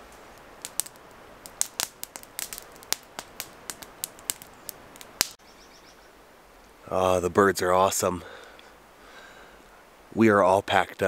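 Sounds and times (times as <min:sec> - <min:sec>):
campfire crackling: 0:00.0 - 0:11.0
faint steady hiss: 0:00.0 - 0:11.0.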